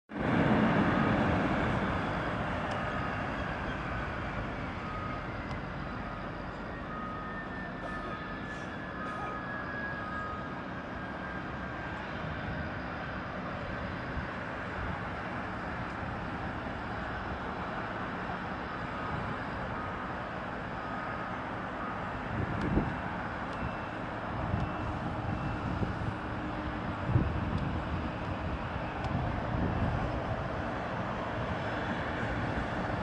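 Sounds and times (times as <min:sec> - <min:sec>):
jet engines of landing airliner: 0:00.1 - 0:33.0.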